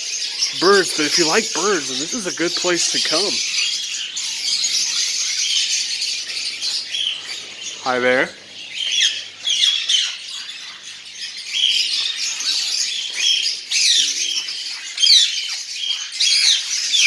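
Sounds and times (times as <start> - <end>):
birds chirping and squawking: 0.0 - 17.0.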